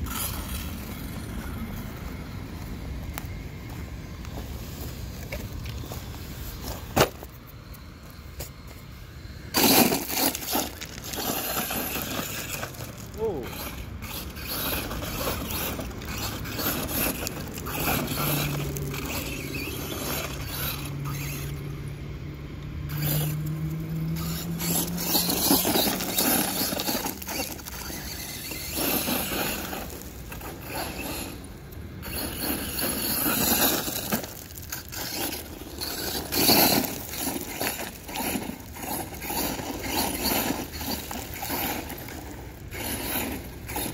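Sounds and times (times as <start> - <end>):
tyres scrabbling on gravel: 0.0 - 22.0, 22.9 - 43.9
low electric motor hum: 0.0 - 43.9.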